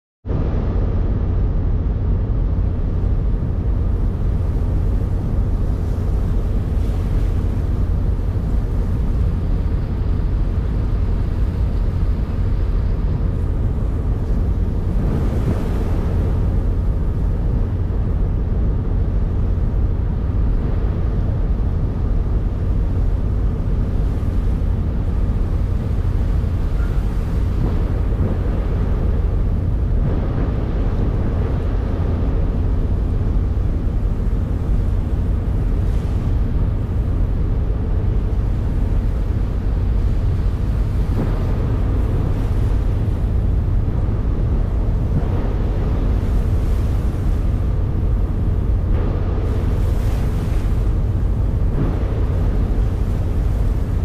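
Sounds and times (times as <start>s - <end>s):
boat engine rumble: 0.2s - 54.0s
wind buffeting microphone: 0.2s - 54.0s.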